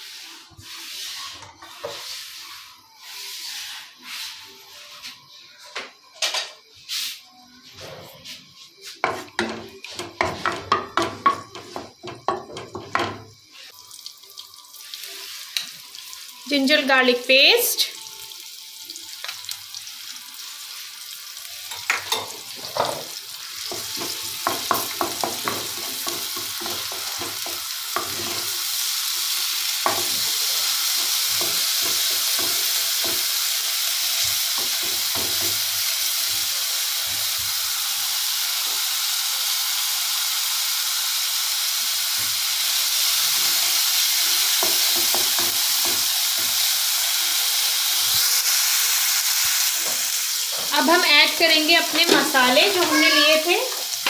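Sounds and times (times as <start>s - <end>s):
paste sizzling in hot oil: 0.0s - 4.9s, 9.8s - 54.0s.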